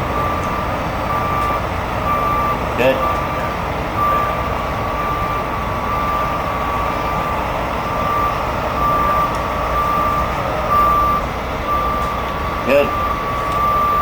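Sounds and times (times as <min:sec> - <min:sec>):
diesel truck engine rumbling: 0:00.0 - 0:14.0
truck backup alarm beeping: 0:00.0 - 0:14.0.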